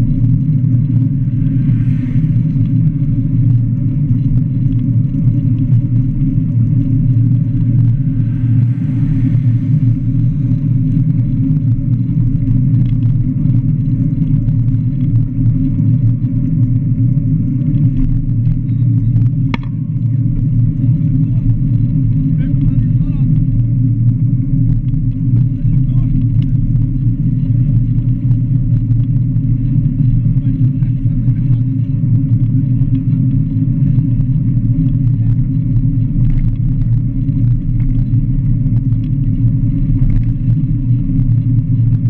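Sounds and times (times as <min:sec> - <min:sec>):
passing traffic: 0:00.0 - 0:41.9
wind and road rumble: 0:00.0 - 0:42.0.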